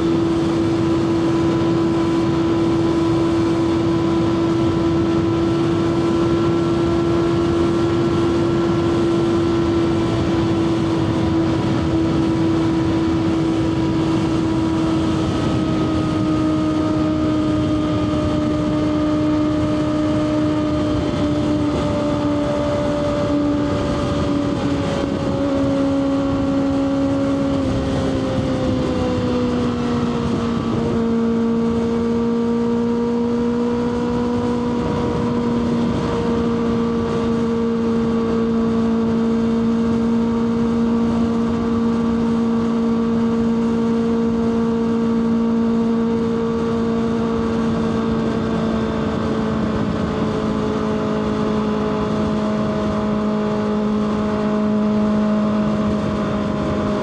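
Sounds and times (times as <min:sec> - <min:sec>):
motorcycle engine at high revs: 0:00.0 - 0:57.0
wind noise: 0:00.0 - 0:57.0.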